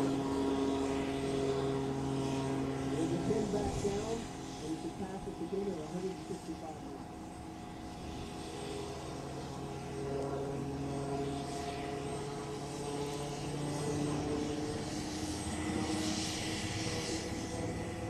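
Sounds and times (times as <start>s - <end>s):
helicopter drone overhead: 0.0s - 18.0s.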